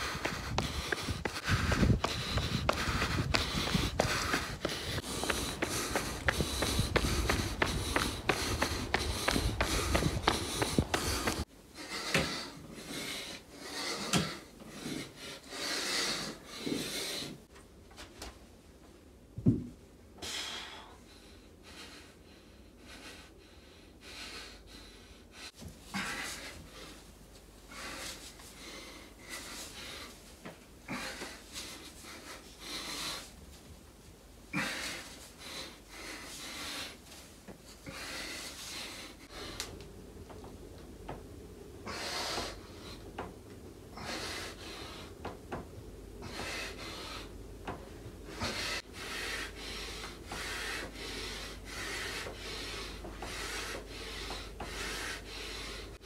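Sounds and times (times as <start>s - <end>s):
man breathing hard: 0.0s - 17.5s, 20.2s - 27.0s, 27.6s - 33.4s, 34.5s - 56.0s.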